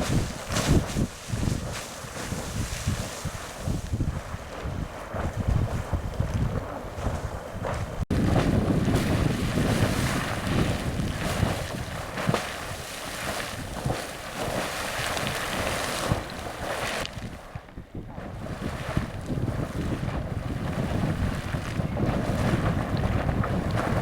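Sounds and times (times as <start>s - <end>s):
geyser water splashing and hissing: 0.0s - 5.1s, 8.8s - 17.6s, 18.2s - 24.0s
wind rumbling on microphone: 0.0s - 24.0s.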